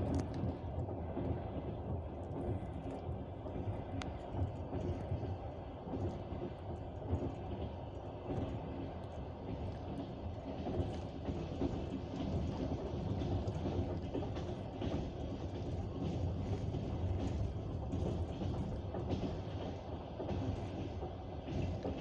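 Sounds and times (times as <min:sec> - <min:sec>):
train rumble: 0:00.0 - 0:22.0
wheels clattering on track: 0:00.0 - 0:22.0.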